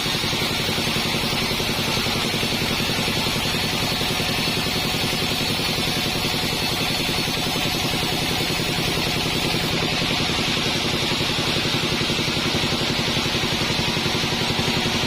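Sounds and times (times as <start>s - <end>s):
bandsaw sawmill running: 0.0s - 15.0s.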